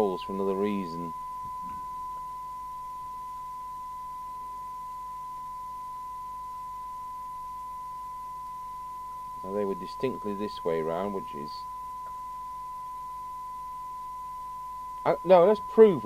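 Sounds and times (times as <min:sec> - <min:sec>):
steady test tone through speaker: 0:00.0 - 0:16.0.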